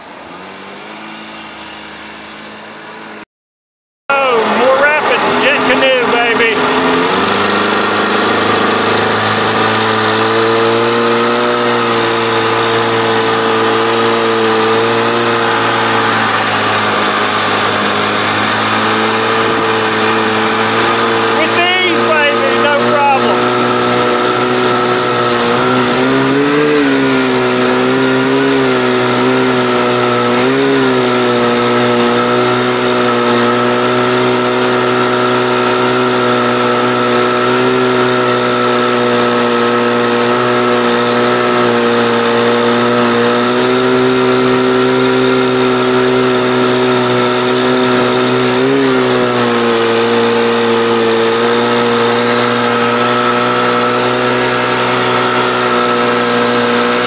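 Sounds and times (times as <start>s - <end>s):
jet ski engine running: 0.0s - 3.2s, 4.1s - 57.0s.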